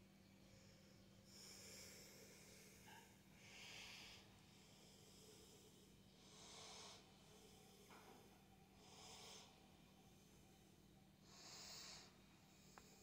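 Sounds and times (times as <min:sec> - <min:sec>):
faint steady hum: 0:00.0 - 0:13.0
slow soft breathing: 0:00.4 - 0:13.0.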